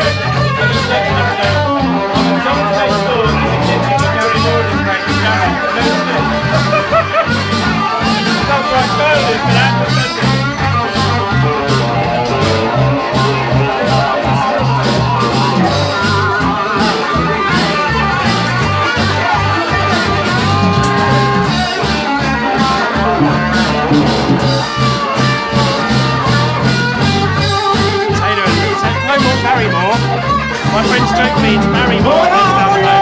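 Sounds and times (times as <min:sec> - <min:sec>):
bass guitar line: 0:00.0 - 0:33.0
electric guitar: 0:00.0 - 0:33.0
strummed acoustic guitar: 0:00.0 - 0:33.0.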